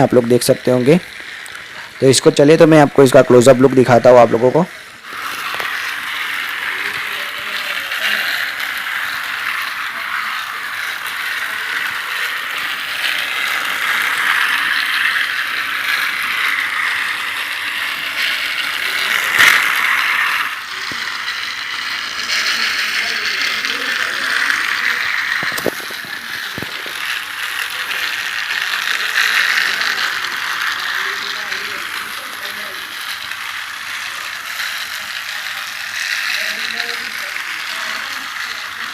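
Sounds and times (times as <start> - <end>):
toy train motor and gears running: 0.0 - 38.9.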